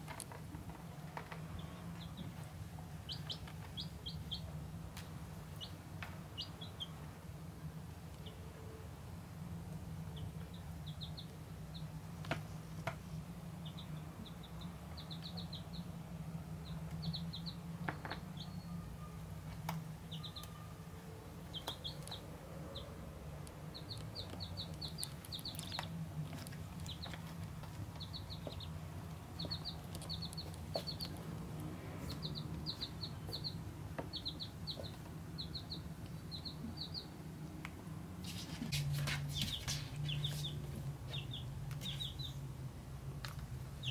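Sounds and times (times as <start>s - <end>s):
chicks peeping: 0.1s - 7.2s, 8.1s - 8.5s, 10.0s - 20.8s, 21.4s - 42.5s, 43.2s - 43.9s.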